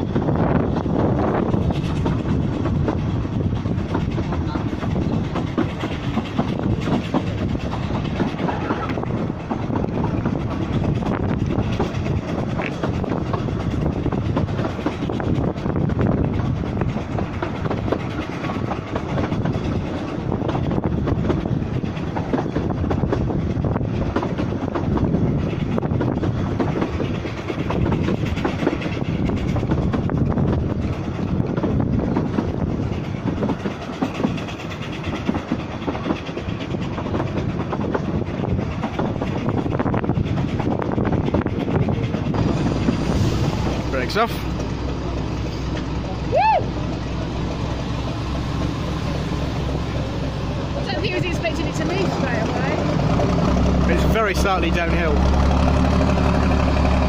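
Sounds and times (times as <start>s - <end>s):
clickety-clack over track: 0.0s - 57.0s
train wheels rumbling: 0.0s - 57.0s.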